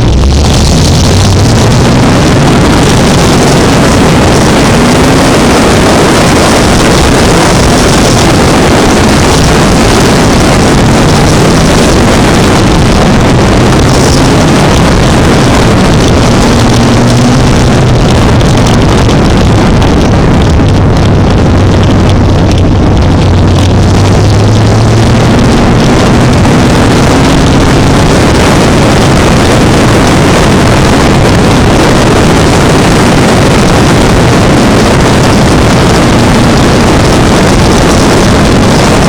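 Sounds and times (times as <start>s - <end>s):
racing truck engines roaring: 0.0s - 39.0s.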